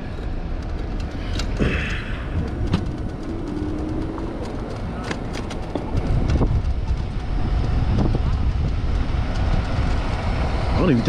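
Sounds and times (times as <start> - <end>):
low wind rumble: 0.0 - 11.0
street traffic noise: 0.0 - 11.0.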